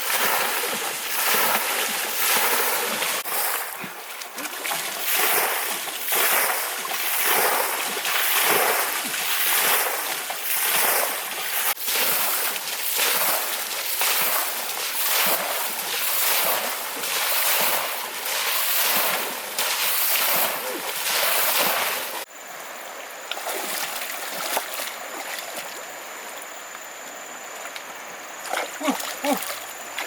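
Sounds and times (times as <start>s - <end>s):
hands splashing river water: 0.0s - 22.3s, 23.1s - 30.0s.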